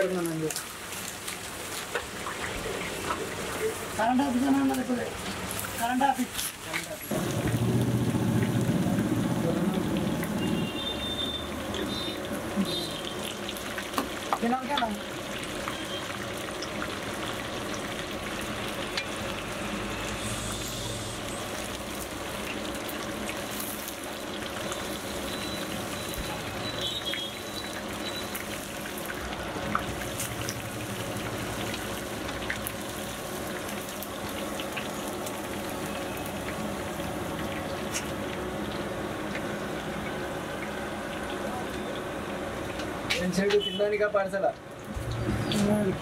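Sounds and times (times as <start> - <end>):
food deep-frying in hot oil: 0.0 - 46.0.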